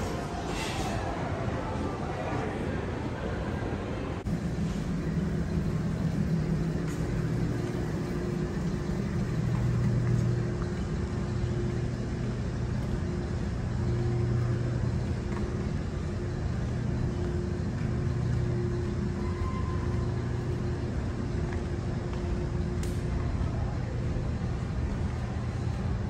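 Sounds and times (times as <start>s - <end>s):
pitched drone: 0.0s - 25.4s
low mechanical hum: 0.0s - 26.0s.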